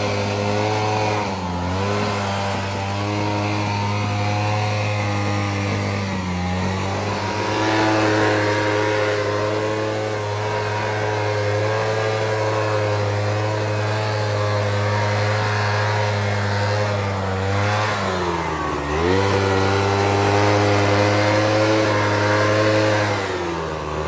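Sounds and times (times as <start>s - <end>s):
leaf blower engine running: 0.0s - 24.0s.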